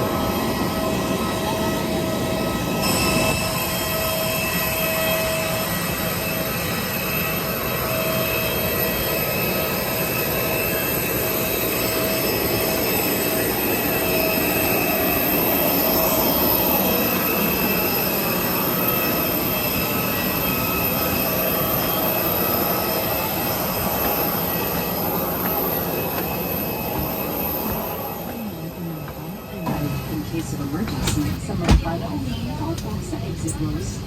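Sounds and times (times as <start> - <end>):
aircraft cabin rushing hum: 0.0 - 34.0
steady high whines: 0.0 - 34.0.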